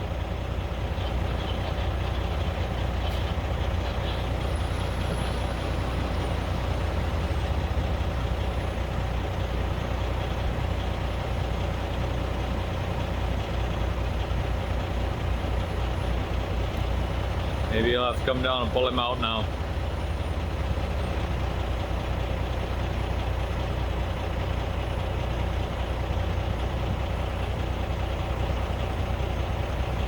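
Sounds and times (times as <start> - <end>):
heavy diesel engines rumbling: 0.0 - 30.0.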